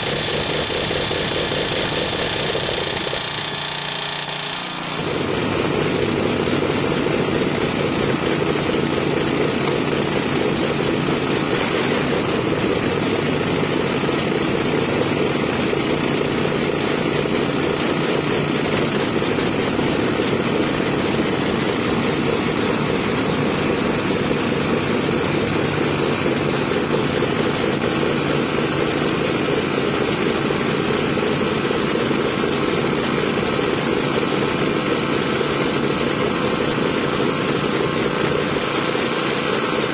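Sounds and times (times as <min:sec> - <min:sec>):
large engine droning: 0:00.0 - 0:39.9.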